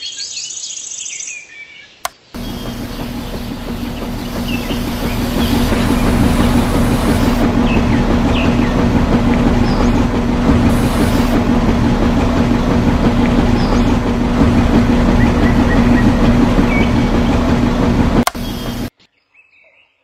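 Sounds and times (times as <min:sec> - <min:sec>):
mechanical rattle: 0:02.4 - 0:18.9
small electric motor hum: 0:02.4 - 0:18.9.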